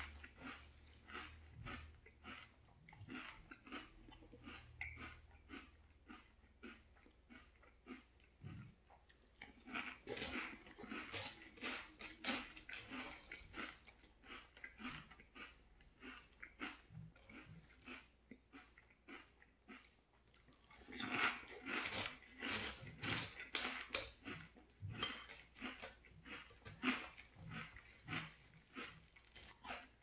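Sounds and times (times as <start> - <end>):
crunchy chewing of cereal: 0.0 - 30.0.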